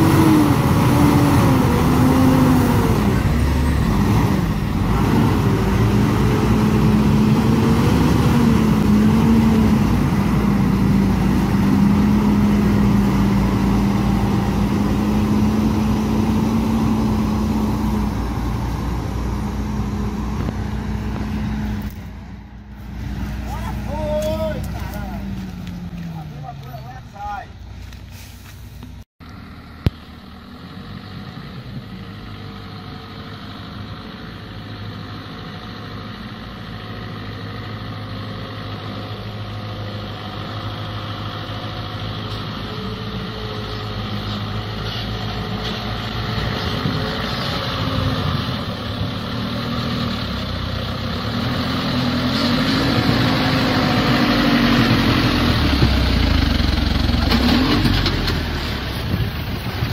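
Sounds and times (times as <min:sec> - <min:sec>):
truck engine pulling through mud: 0:00.0 - 0:26.9, 0:27.6 - 0:59.9.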